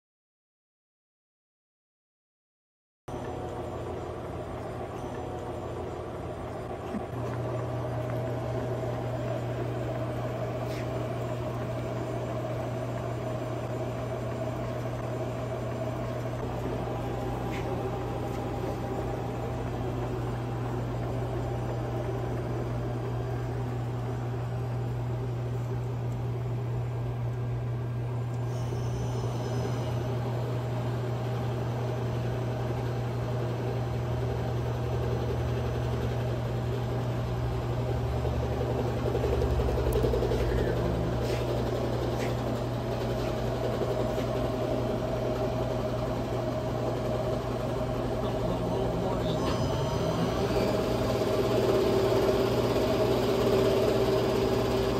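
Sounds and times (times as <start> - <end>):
lathe machine humming: 3.1 - 54.9.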